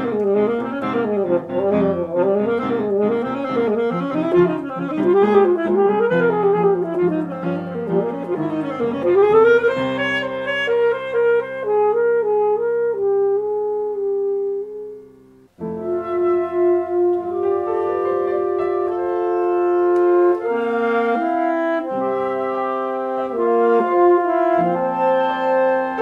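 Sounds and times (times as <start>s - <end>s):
chamber music for winds and piano: 0.0s - 26.0s.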